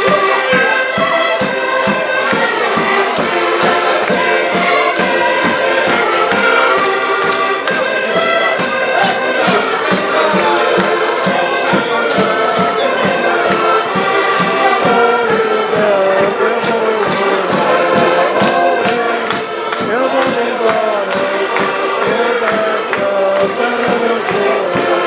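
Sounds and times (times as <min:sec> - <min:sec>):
accordions playing folk tune: 0:00.0 - 0:25.0
steady pulsing beat: 0:00.0 - 0:25.0.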